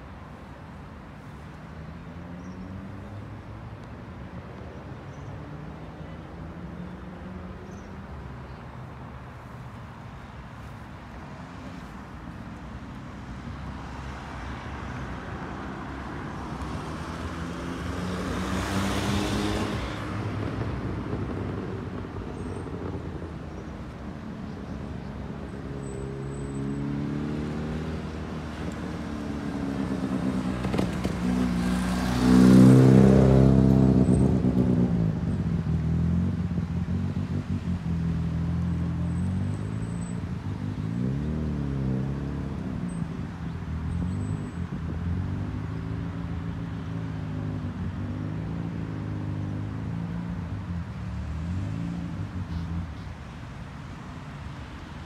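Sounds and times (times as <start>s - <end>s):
vehicle engine hum: 0.0s - 55.0s.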